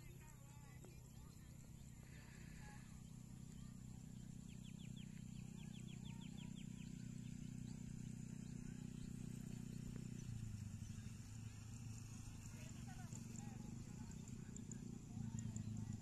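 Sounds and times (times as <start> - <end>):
bird chirping: 0.0 - 16.0
low engine hum: 0.0 - 16.0.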